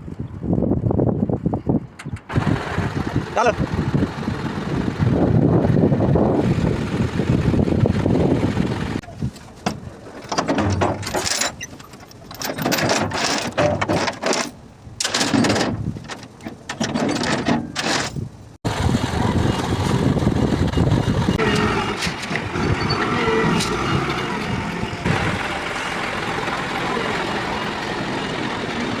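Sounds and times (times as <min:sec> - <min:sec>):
road noise: 0:00.0 - 0:29.0
truck engine: 0:01.9 - 0:29.0.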